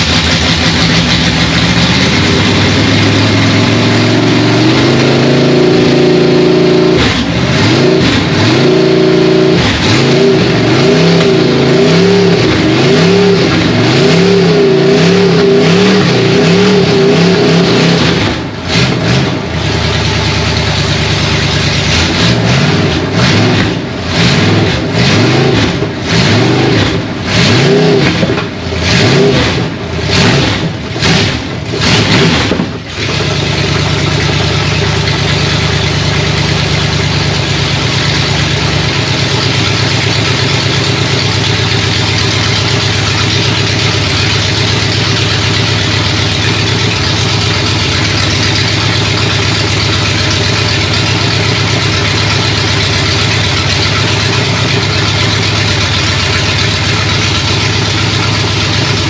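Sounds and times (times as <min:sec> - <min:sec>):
unmuffled engine revving and idling: 0:00.0 - 0:59.0.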